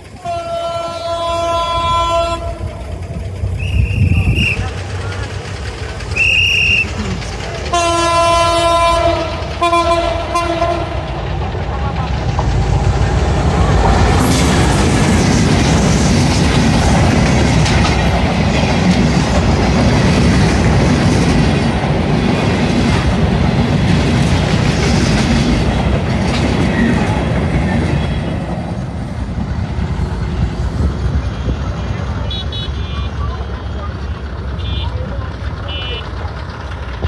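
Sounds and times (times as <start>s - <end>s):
train passing with rumble: 0.0s - 37.0s
wheels clattering over rail joints: 2.0s - 32.2s.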